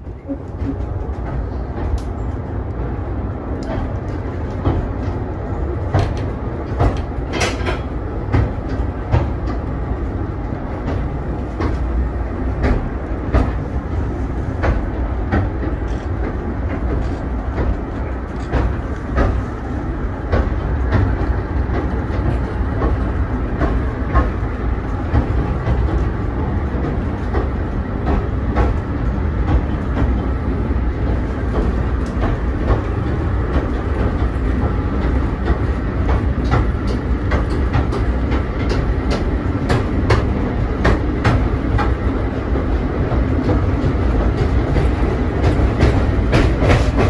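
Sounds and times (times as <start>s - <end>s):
train wheels rumbling on track: 0.0s - 47.0s
wooden carriage rattling: 0.0s - 47.0s.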